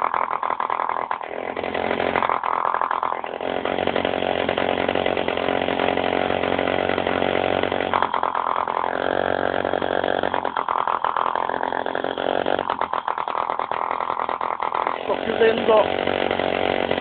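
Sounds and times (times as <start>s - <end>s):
diesel engine running: 3.3s - 17.0s.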